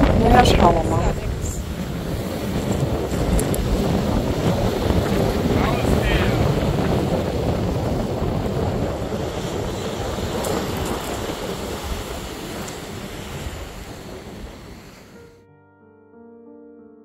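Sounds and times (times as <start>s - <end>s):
surf breaking on pebbles: 0.0s - 15.1s
wind buffeting microphone: 0.0s - 15.2s.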